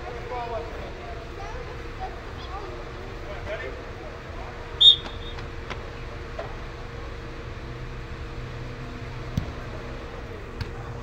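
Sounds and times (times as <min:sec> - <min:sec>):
sports hall hum: 0:00.0 - 0:11.0.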